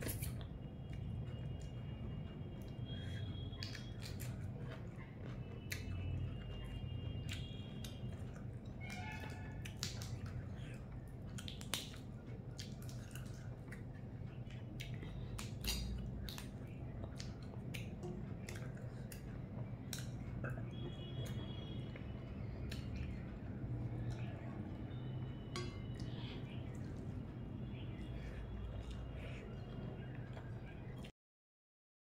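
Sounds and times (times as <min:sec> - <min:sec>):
person chewing and crunching food: 0:00.0 - 0:31.1.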